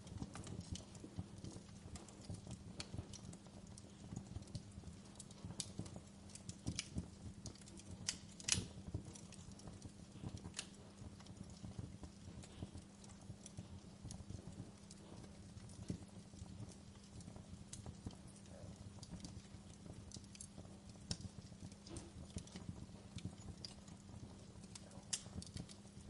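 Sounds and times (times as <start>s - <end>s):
low steady hum: 0.0s - 26.0s
wood fire crackling: 0.0s - 26.0s.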